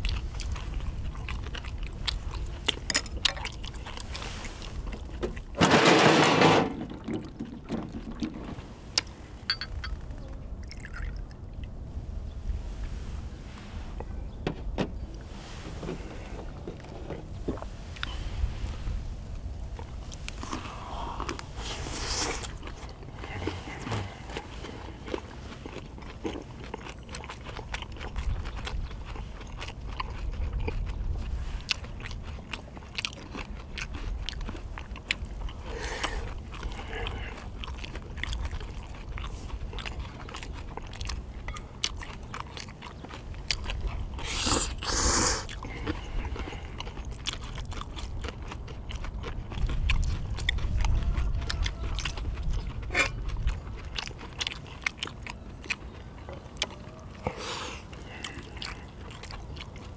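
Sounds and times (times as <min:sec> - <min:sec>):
close chewing and mouth smacking: 0:00.0 - 0:05.6, 0:08.9 - 0:11.9, 0:15.0 - 0:59.9.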